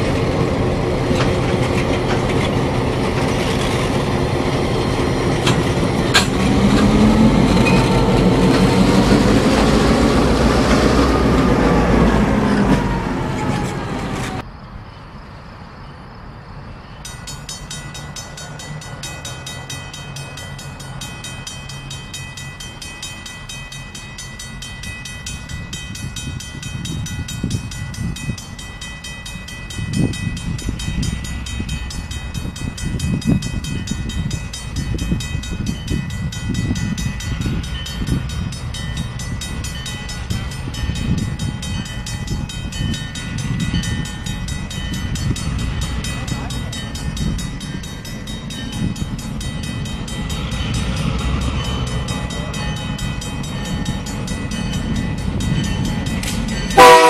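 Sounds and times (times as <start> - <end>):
diesel locomotives rumbling: 0.0 - 57.0.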